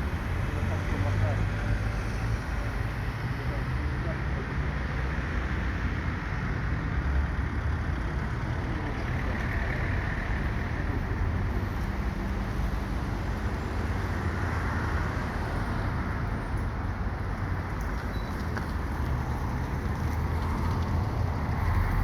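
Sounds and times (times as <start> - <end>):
passing cars humming: 0.0 - 22.0.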